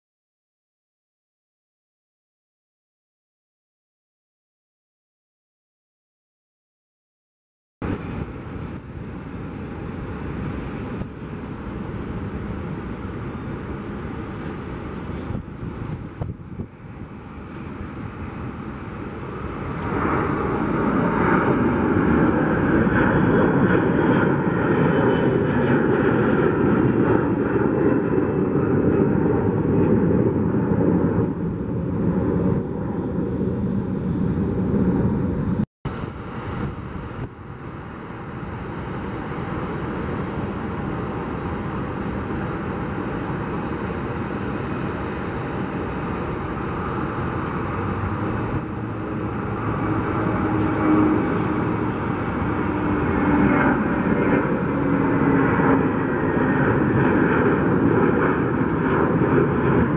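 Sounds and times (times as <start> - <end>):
jet engine rumble: 7.8 - 59.9.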